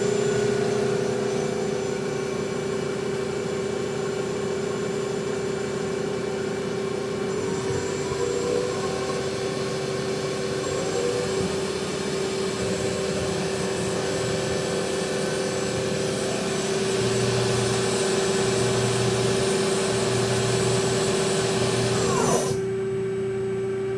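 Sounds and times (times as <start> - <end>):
constant hum: 0.0 - 23.0
lathe running with whine: 0.0 - 23.9.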